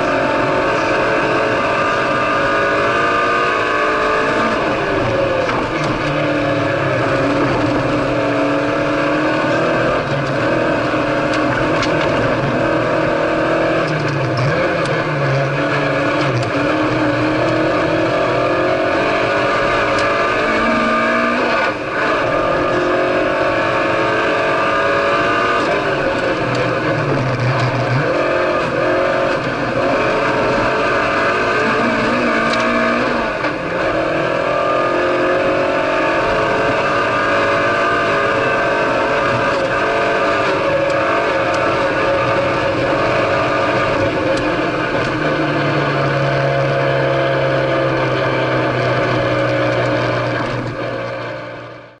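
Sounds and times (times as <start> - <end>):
rally car engine running hard: 0.0 - 52.0
road and tyre noise: 0.0 - 52.0.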